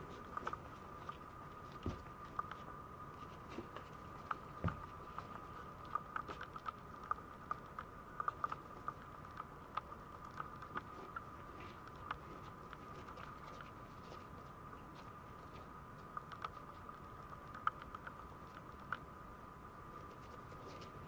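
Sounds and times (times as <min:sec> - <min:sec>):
puppies chewing: 0:00.0 - 0:19.0.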